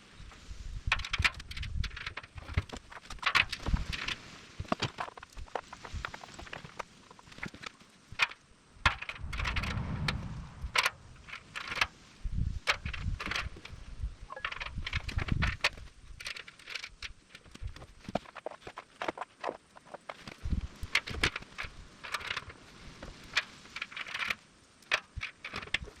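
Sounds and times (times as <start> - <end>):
dull handling noise: 1.0 - 26.0.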